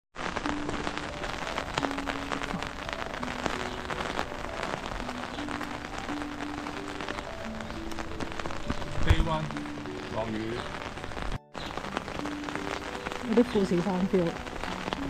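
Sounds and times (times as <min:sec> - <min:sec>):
rain on a hard surface: 0:00.2 - 0:15.0.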